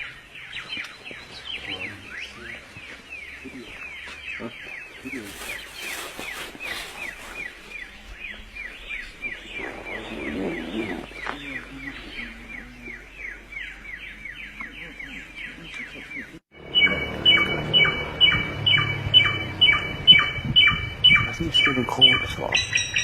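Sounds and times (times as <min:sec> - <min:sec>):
songbird chirping: 0:00.0 - 0:23.0.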